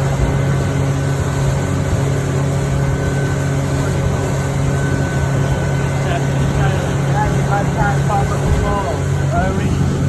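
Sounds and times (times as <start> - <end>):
boat engine droning: 0.0 - 10.0
water rushing: 0.0 - 10.0.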